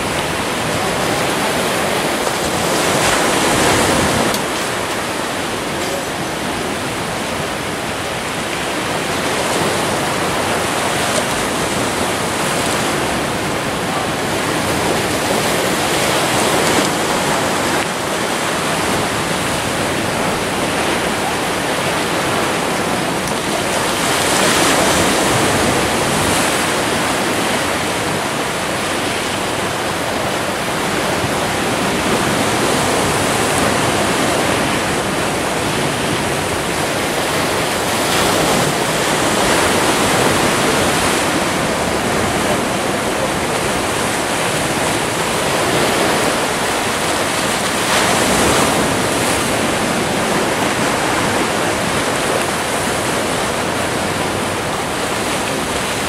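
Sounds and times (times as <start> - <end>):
waves breaking on rocks: 0.0 - 56.0.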